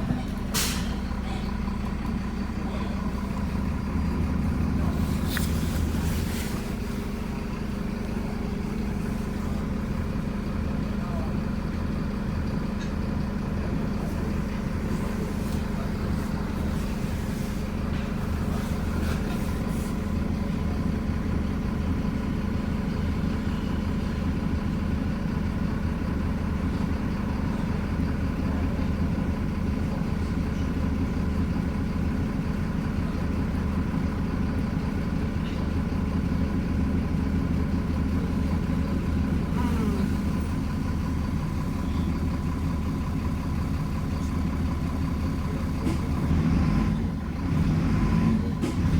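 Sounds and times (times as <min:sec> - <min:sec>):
bus engine running: 0:00.0 - 0:48.9.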